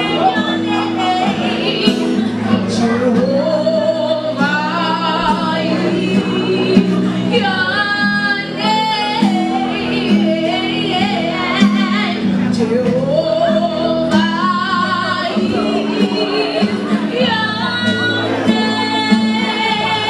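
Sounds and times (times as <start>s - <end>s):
instrumental backing music: 0.0s - 20.0s
woman singing gospel song: 0.0s - 20.0s.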